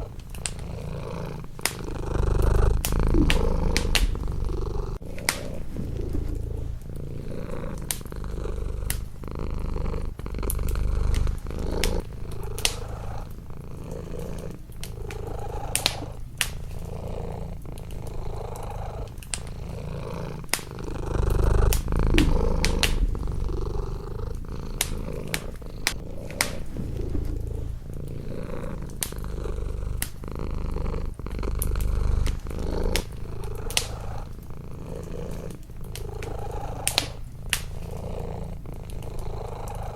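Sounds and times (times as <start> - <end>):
wood fire crackling: 0.0 - 39.7
cat purring: 0.0 - 39.9.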